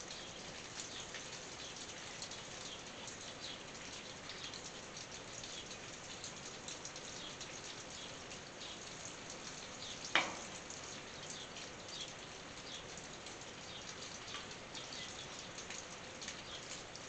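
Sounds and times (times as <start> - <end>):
light rain on a tin roof: 0.0 - 17.0.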